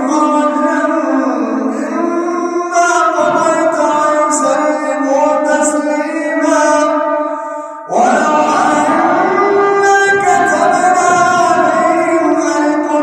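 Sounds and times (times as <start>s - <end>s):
man chanting melodic recitation: 0.0s - 13.0s.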